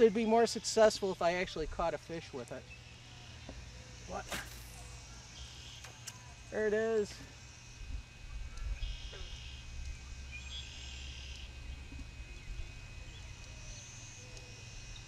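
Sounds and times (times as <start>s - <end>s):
faint bird calls: 2.6s - 15.0s.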